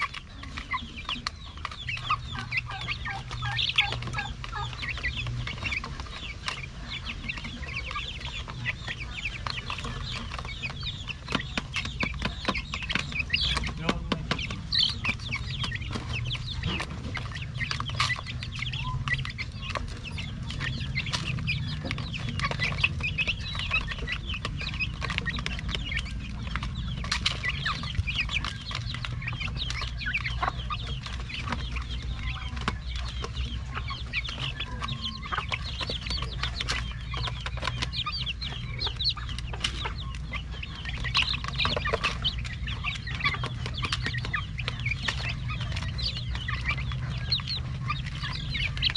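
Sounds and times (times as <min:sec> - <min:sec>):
beaks clicking on tray: 0:00.0 - 0:48.9
chicks peeping: 0:00.0 - 0:48.9.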